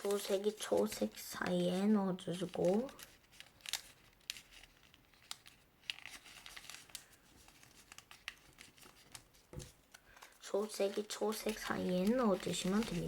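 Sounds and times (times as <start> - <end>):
paper crackling and rustling: 0.0 - 13.0
crisp paper clicks: 2.4 - 13.0.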